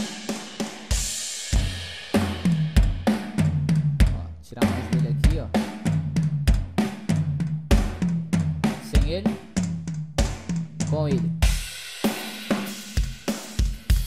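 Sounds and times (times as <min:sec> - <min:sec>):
drum kit groove: 0:00.0 - 0:14.0.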